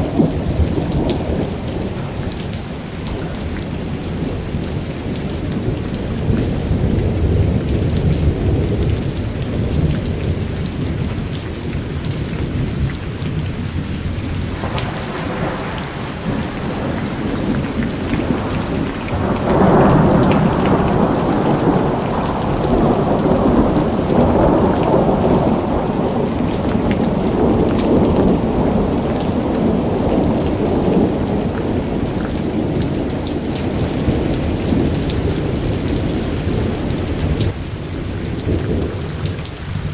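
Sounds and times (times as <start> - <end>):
rolling thunder: 0.0 - 39.9
steady rain: 0.0 - 39.9.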